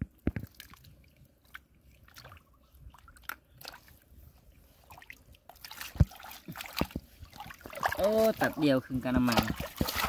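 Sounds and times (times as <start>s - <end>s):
water splashing: 0.1s - 4.1s, 4.8s - 10.0s.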